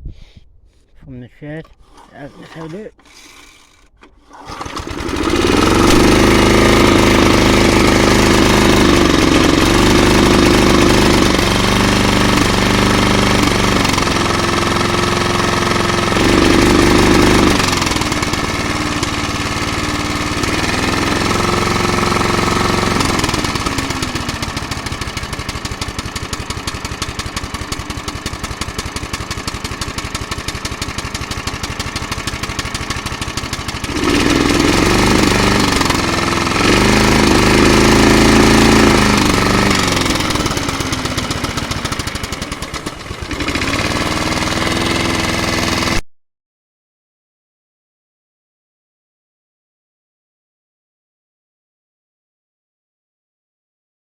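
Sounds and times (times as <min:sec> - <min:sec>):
lawnmower engine revving: 0:01.6 - 0:46.0.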